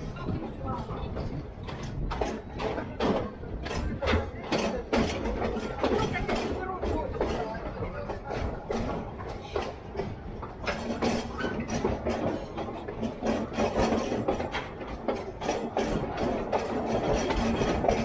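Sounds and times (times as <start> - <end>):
train knocking and rattling: 0.0 - 18.0.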